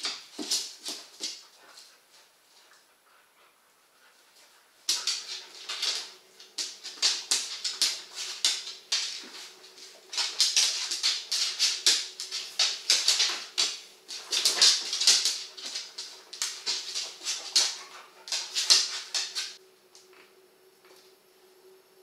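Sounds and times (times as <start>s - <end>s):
dogs scuffling: 0.0s - 3.1s, 4.0s - 19.6s.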